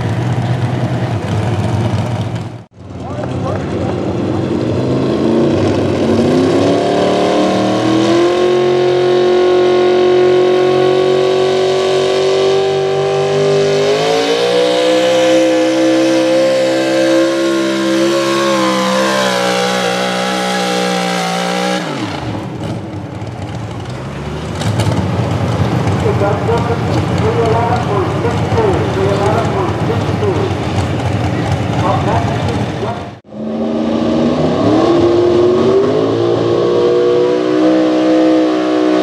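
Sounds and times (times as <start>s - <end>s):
engine revving at full throttle: 3.4s - 39.0s.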